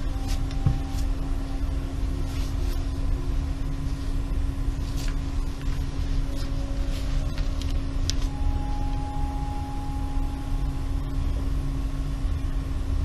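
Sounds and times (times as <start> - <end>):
constant hum: 0.0 - 13.0
low rumbling noise: 0.0 - 13.0.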